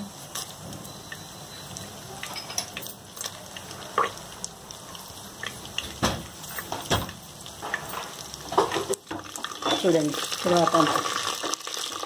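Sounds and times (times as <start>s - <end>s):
leaves and seeds sizzling in oil: 0.0s - 12.0s.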